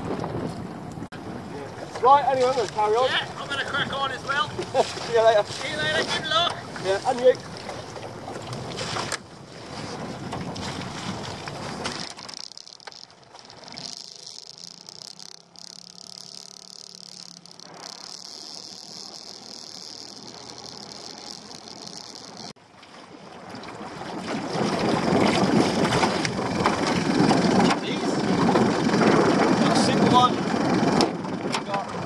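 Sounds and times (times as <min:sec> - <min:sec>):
outboard motor running: 0:00.0 - 0:32.0
wind and water rushing: 0:00.0 - 0:32.0.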